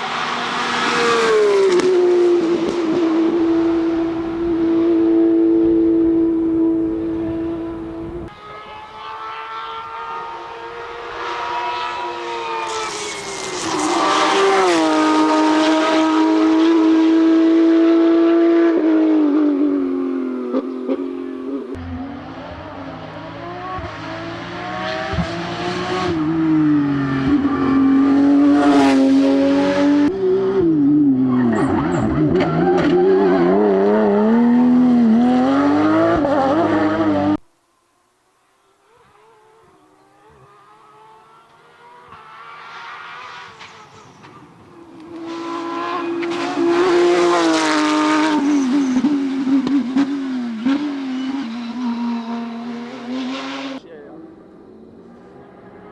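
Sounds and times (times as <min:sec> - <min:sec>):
rally car engine revving past: 0:00.0 - 0:37.4, 0:38.8 - 0:55.9.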